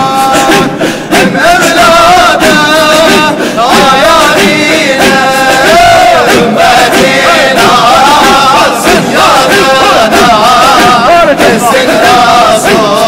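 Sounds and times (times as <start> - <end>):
man singing melismatic melody: 0.0 - 13.0
men chanting rhythmically: 0.0 - 13.0.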